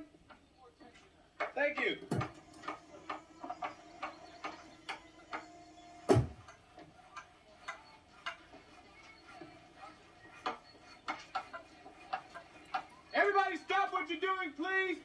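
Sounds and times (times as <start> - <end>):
hammers knocking: 0.0 - 15.0.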